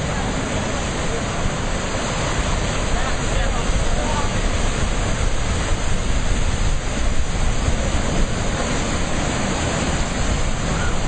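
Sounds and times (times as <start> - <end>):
sea waves breaking: 0.0 - 11.0
wind buffeting microphone: 0.0 - 11.0.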